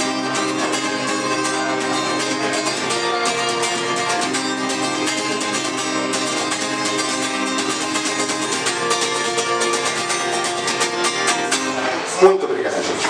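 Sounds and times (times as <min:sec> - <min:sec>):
guitar strummed: 0:00.0 - 0:13.0.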